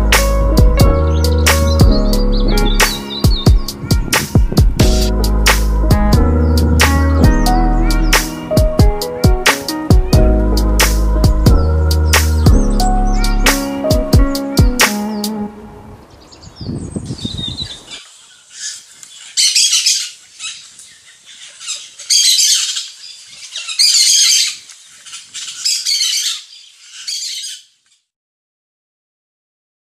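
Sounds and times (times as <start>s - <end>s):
finch twittering song: 0.0s - 27.8s.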